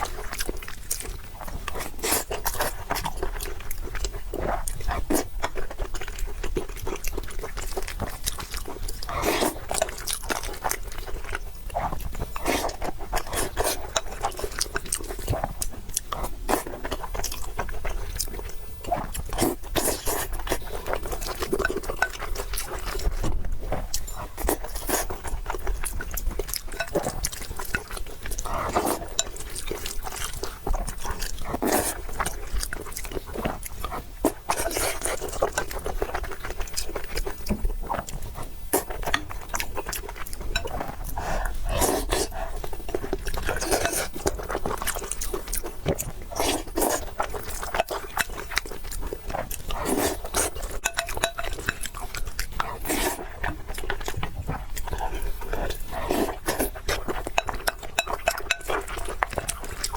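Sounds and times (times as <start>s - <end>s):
chewing and crunching: 0.0s - 59.9s.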